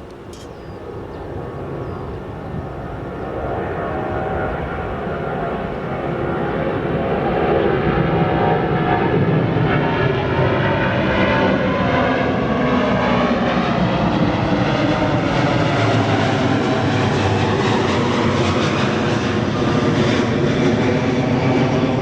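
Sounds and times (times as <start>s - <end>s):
airliner engines running: 0.0s - 22.0s.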